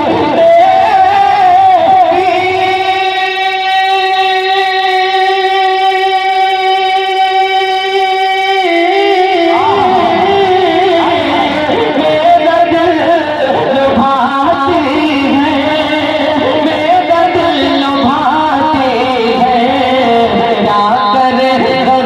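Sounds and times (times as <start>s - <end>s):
devotional vocal music: 0.0s - 22.0s.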